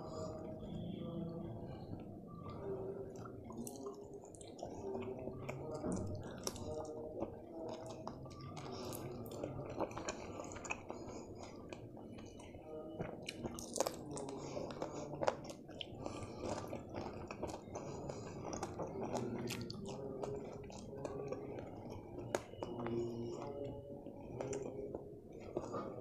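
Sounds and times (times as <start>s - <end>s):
person chewing fried chicken: 1.6s - 26.0s.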